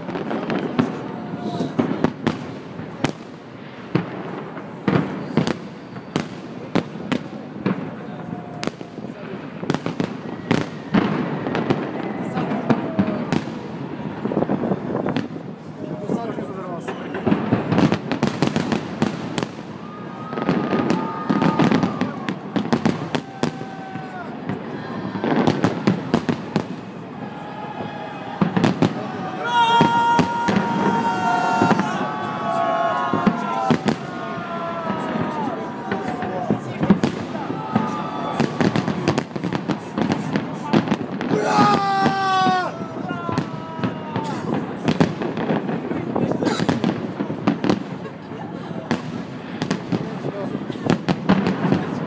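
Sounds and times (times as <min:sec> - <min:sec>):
fireworks bangs with echo: 0:00.0 - 0:52.0.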